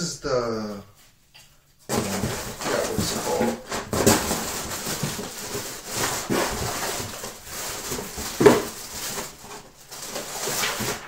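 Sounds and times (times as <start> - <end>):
packaging rustling: 1.9 - 11.0.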